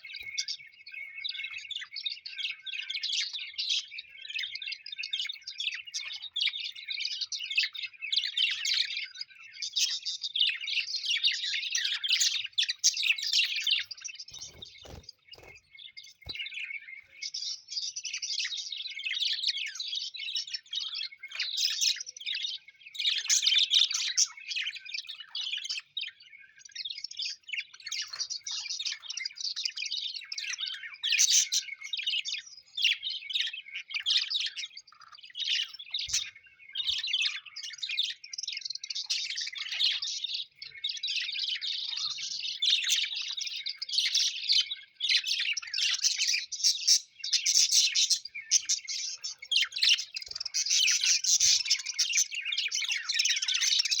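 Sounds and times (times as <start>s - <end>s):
parrots chirping and chattering: 0.0s - 54.0s.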